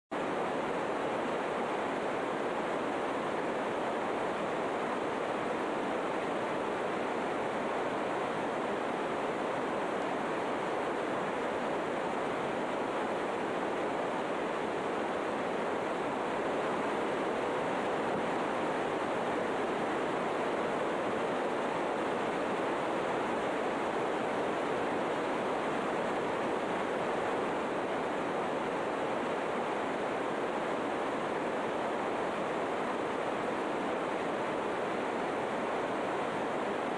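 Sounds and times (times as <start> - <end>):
steady rushing noise: 0.2 - 36.9.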